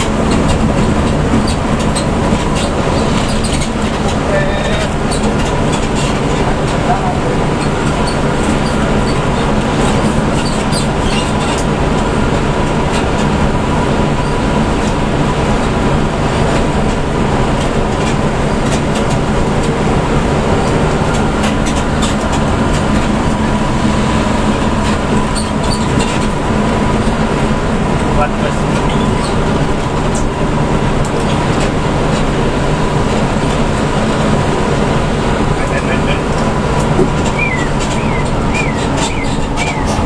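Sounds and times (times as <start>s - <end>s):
coach engine drone: 0.0s - 40.0s
road and tyre rumble: 0.0s - 40.0s.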